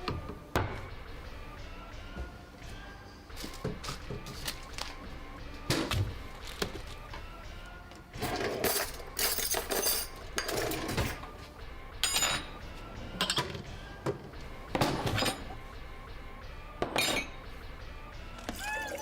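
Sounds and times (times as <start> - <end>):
music: 0.0 - 19.0.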